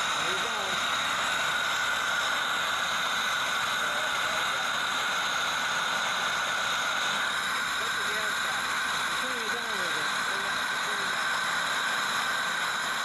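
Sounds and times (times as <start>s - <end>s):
gas burner hissing: 0.0s - 13.0s.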